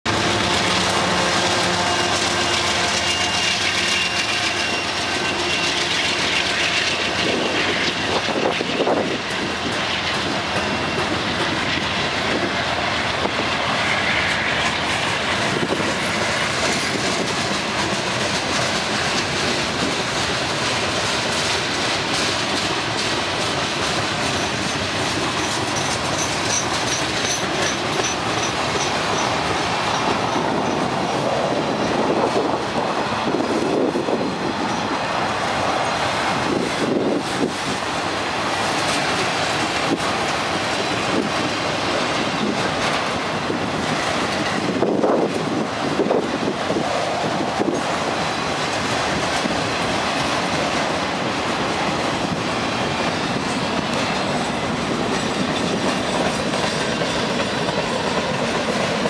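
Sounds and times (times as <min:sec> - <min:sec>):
diesel locomotive engine drone: 0:00.0 - 0:59.0
train cars rolling on rails: 0:00.1 - 0:59.0.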